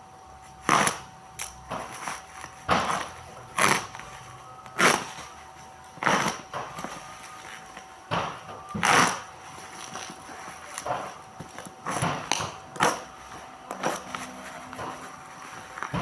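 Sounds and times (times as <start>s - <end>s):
packaging rustling and crinkling: 1.6s - 16.0s.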